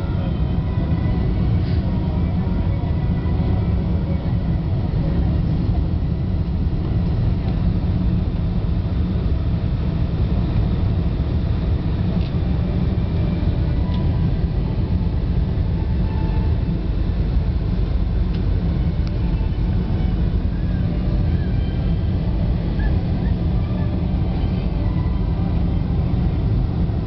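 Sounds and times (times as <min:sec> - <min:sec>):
aircraft cabin engine roar: 0:00.0 - 0:27.0.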